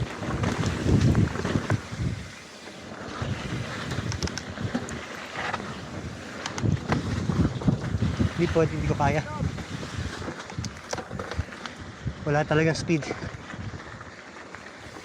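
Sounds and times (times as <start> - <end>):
wind buffeting microphone: 0.0 - 2.4, 3.1 - 14.0
mountain bike rumbling and rattling: 0.0 - 15.0.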